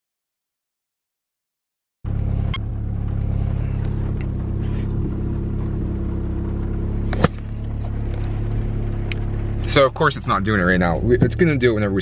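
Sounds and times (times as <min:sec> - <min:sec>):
car engine idling: 0:02.1 - 0:12.0.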